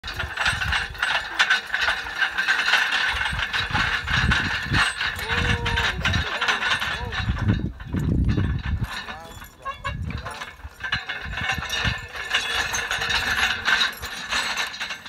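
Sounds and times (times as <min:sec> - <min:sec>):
metal ring roller clattering: 0:00.0 - 0:15.0.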